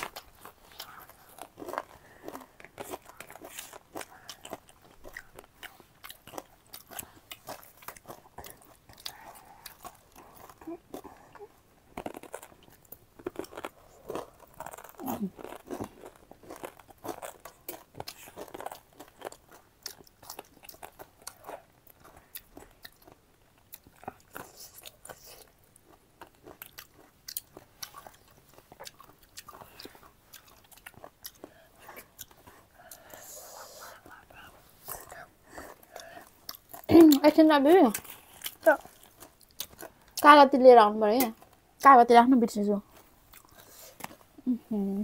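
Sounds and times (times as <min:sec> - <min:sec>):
person chewing crunchy food: 0:00.0 - 0:40.3, 0:42.8 - 0:44.6.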